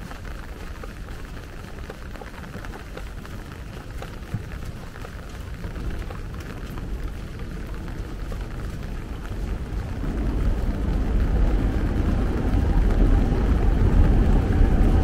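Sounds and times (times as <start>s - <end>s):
light rain on wet paving: 0.0s - 15.0s
low steady rumble: 0.0s - 15.0s.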